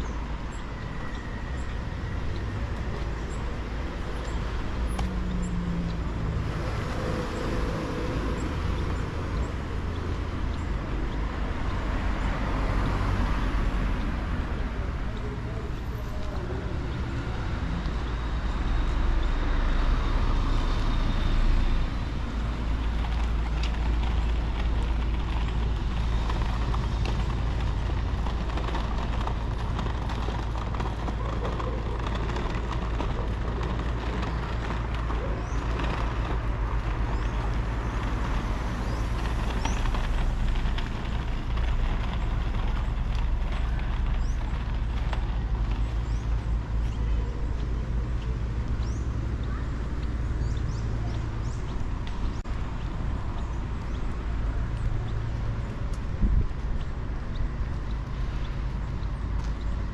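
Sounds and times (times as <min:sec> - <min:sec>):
constant low rumble: 0:00.0 - 0:59.9
motor traffic going by: 0:00.0 - 0:59.9.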